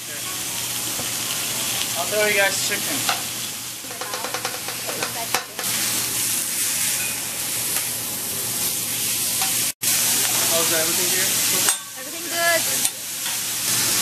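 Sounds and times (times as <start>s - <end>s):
meat sizzling on griddle: 0.0s - 14.0s.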